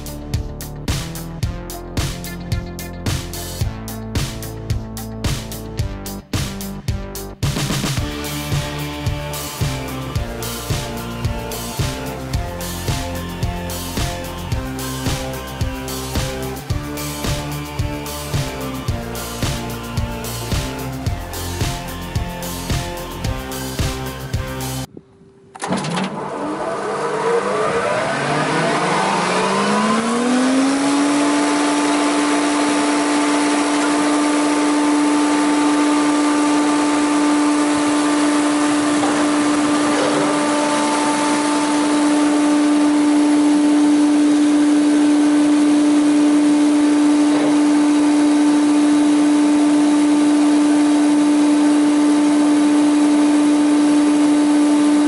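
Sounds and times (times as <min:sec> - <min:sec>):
thickness planer motor whine and hum: 0:08.0 - 0:55.0.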